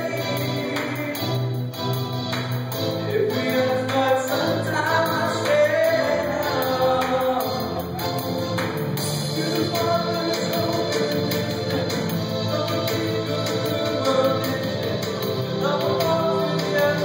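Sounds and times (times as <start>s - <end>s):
man singing into a microphone: 0.0s - 1.9s, 3.0s - 8.0s, 9.2s - 17.0s
music with a steady beat: 0.0s - 17.0s.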